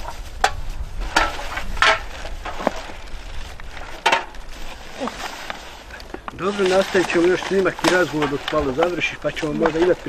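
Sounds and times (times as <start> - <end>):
drink cans clinking and crunching: 0.0 - 10.0
plastic rustling and crackling: 0.0 - 10.0.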